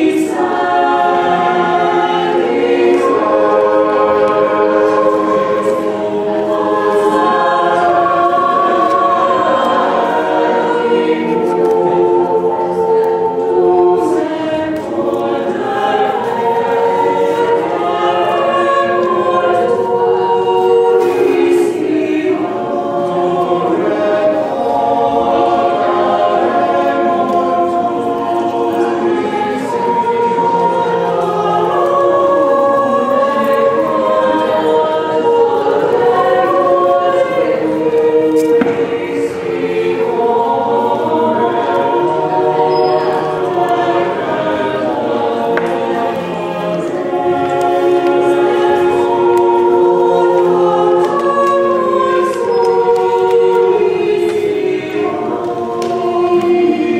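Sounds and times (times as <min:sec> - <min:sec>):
mixed choir singing unaccompanied: 0:00.0 - 0:56.9.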